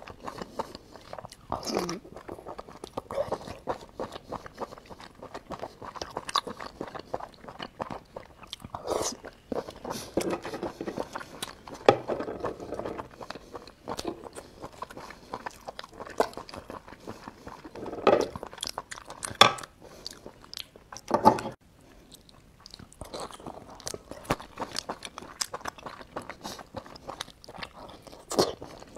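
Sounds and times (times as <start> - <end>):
chewing and biting: 0.0 - 21.1, 21.9 - 28.9.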